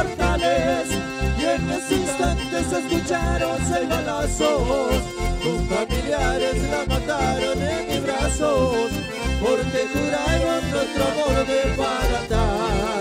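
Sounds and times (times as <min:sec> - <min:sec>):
latin dance band music: 0:00.0 - 0:13.0.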